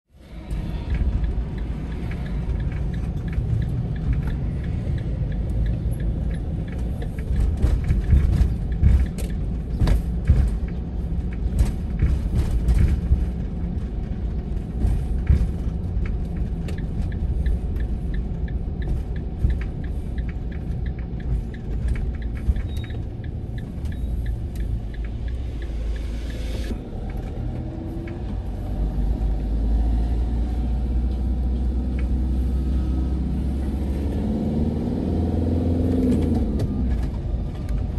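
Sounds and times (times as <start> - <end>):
engine and tyre rumble: 0.1 - 37.9.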